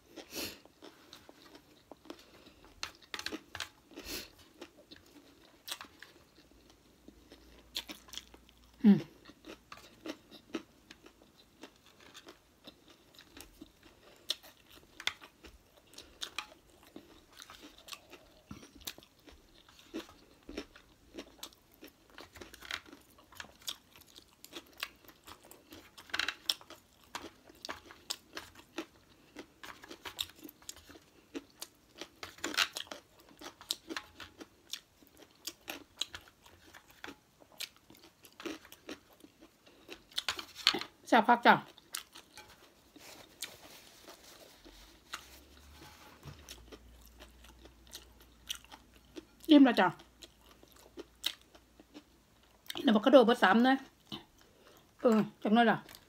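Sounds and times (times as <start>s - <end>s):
person chewing: 0.0s - 41.0s, 41.7s - 52.8s.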